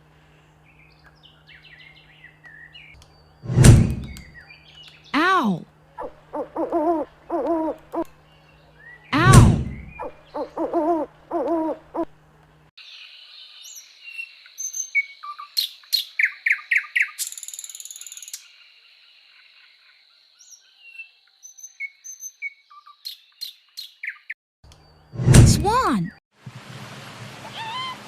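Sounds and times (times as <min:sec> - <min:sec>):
small birds chirping: 0:00.4 - 0:12.1, 0:12.8 - 0:25.2.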